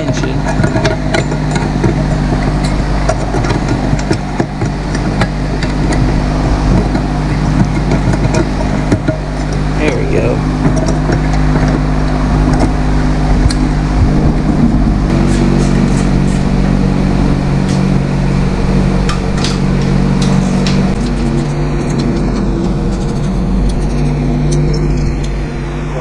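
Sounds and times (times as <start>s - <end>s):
small gasoline engine running: 0.0s - 26.0s.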